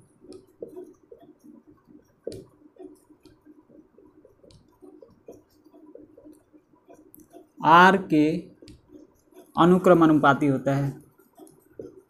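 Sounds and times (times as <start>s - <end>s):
writing on a board: 0.0s - 7.6s, 8.5s - 10.1s, 11.0s - 12.0s.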